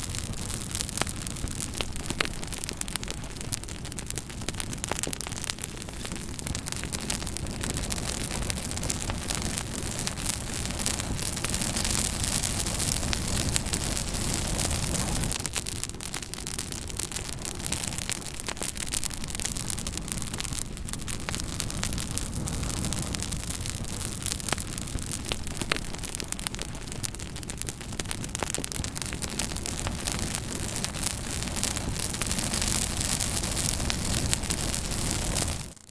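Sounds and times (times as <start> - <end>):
fire crackling: 0.0 - 35.9.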